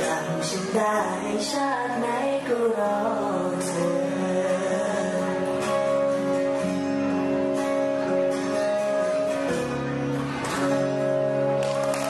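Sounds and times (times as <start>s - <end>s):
strummed ballad chords: 0.0s - 12.0s.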